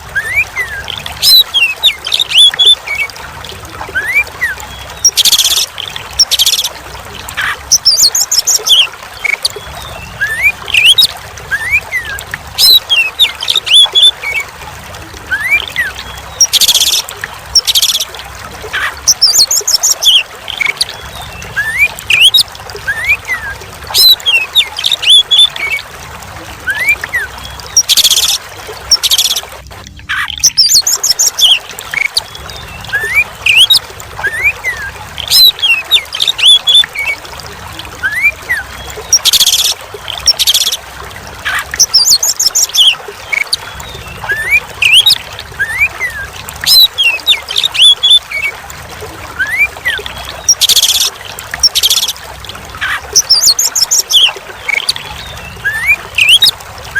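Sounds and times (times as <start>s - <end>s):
trickling water: 0.0s - 56.9s.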